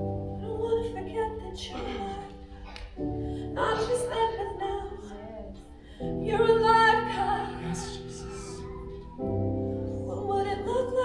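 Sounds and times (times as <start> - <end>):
person singing softly: 0.0 - 11.0
sustained keyboard chords: 0.0 - 11.0.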